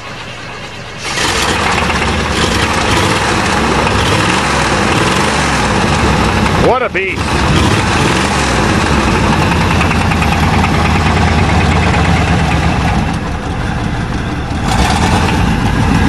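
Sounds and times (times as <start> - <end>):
truck engine idling with knock: 1.2 - 16.0.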